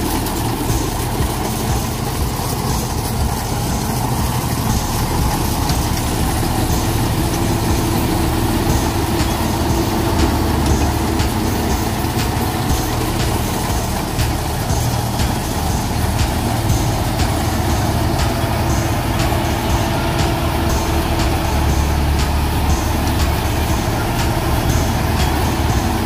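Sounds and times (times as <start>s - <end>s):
diesel engine running: 0.0s - 26.0s
machine clattering: 0.0s - 26.0s.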